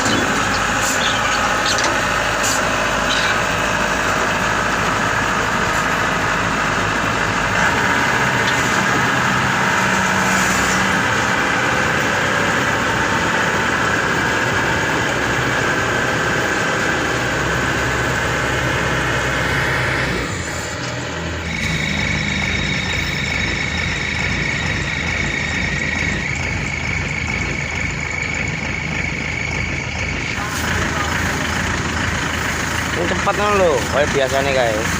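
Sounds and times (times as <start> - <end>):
combine harvester engine running: 0.0 - 34.9
steady high whine: 0.0 - 34.9.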